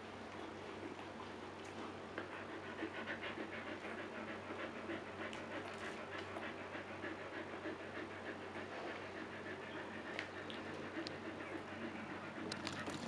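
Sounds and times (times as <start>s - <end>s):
dog panting rapidly: 0.7s - 13.0s.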